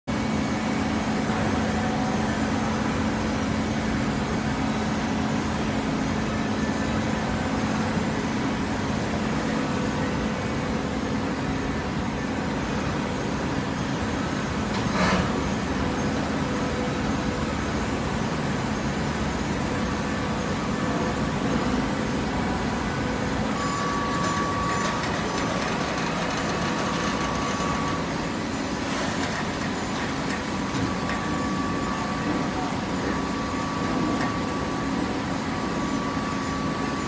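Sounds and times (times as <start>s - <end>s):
baler machine hum: 0.1s - 37.0s.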